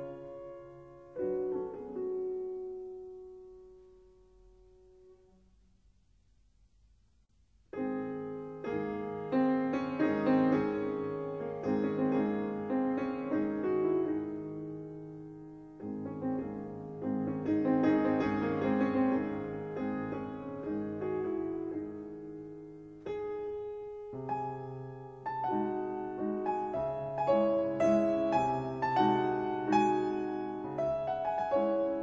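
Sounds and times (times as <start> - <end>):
solo piano music: 0.0 - 6.0, 7.7 - 32.0.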